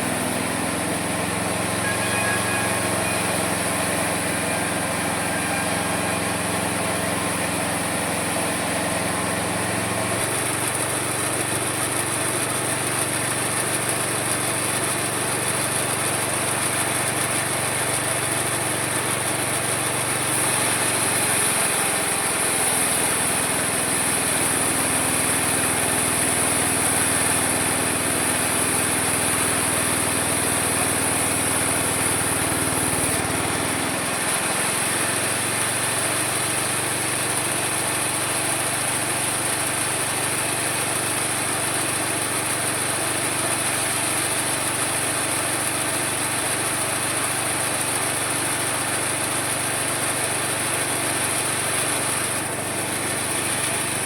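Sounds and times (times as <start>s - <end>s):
small engine whining: 0.0s - 54.0s.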